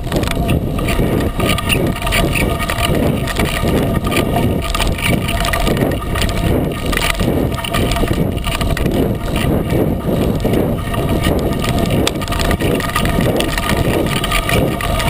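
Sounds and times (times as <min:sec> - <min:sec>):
tire crunching on dirt trail: 0:00.0 - 0:15.0
wind buffeting microphone: 0:00.0 - 0:15.0.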